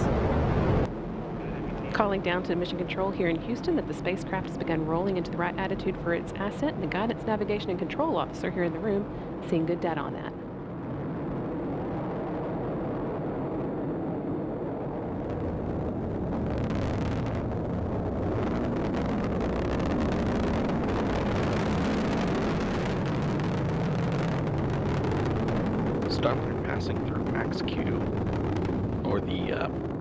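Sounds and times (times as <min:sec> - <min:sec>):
rocket engines rumbling: 0:00.0 - 0:30.0.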